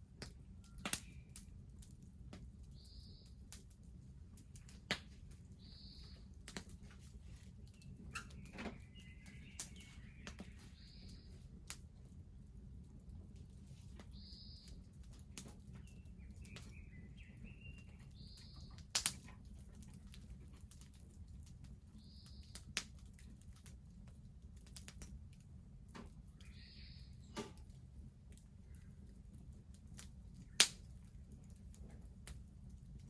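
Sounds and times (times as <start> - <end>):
bonfire crackling and popping: 0.0 - 33.0.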